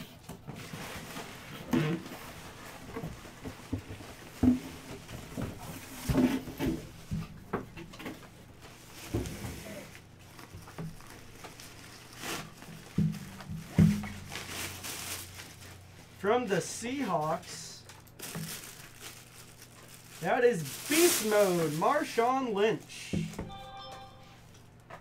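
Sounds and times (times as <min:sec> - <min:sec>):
plastic wrapping rustling: 0:00.0 - 0:07.4, 0:08.2 - 0:25.0.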